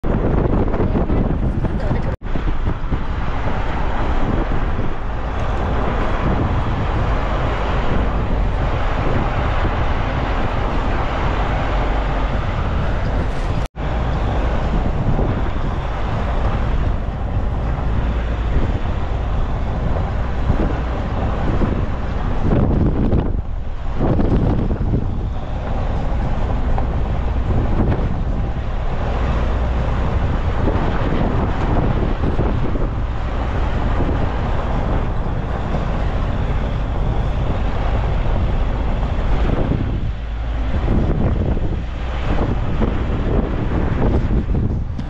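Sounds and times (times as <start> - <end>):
vehicle rumbling along a road: 0.0 - 45.0
wind buffeting microphone: 0.0 - 45.0.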